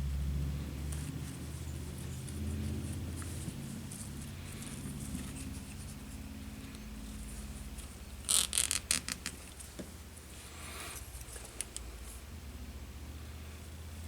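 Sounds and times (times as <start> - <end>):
steady low hum: 0.0 - 14.0
scratchy rustles and scrapes: 0.8 - 12.2.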